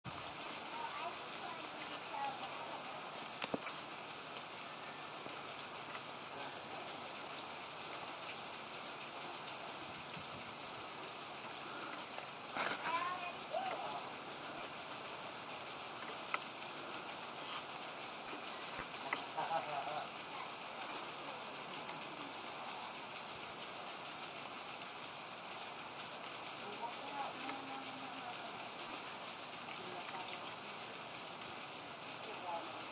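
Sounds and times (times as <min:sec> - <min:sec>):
lawn sprinkler spraying water: 0:00.0 - 0:32.9.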